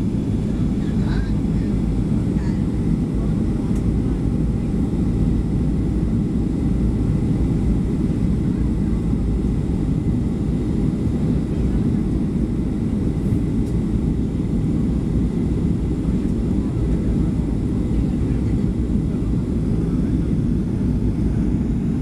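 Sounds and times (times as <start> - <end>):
airplane cabin engine roar: 0.0 - 22.0.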